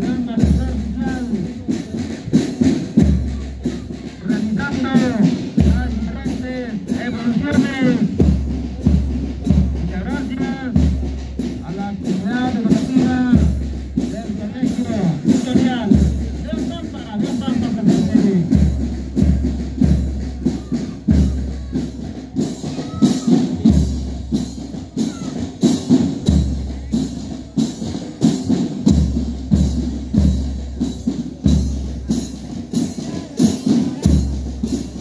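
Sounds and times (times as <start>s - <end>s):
march music with drum beat: 0.0s - 35.0s.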